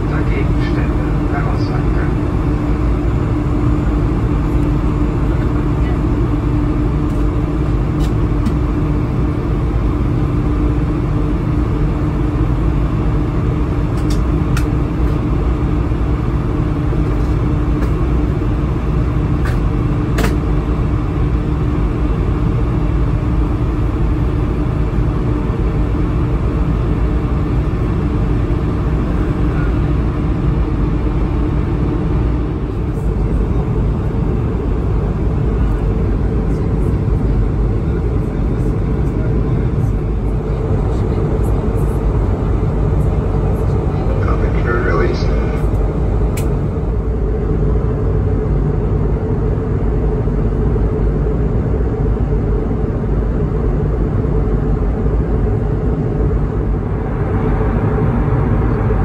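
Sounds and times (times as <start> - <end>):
jet engines roaring: 0.0 - 59.0
steady hum: 0.0 - 59.0.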